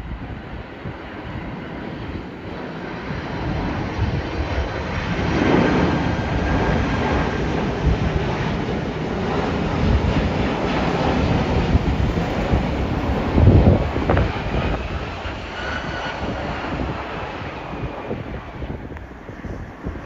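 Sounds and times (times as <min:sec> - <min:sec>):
jet engines rushing: 0:00.0 - 0:20.0
wind buffeting microphone: 0:00.0 - 0:20.0.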